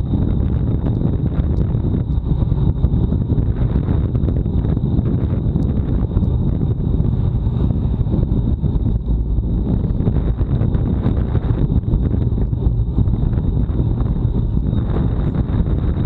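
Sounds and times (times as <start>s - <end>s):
faint high whine: 0.0s - 16.0s
wind buffeting microphone: 0.0s - 16.0s.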